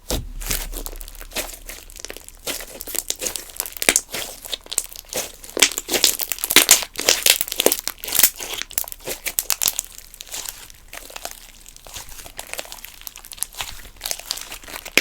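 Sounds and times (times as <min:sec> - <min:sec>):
slime squished by hand: 0:00.0 - 0:15.0.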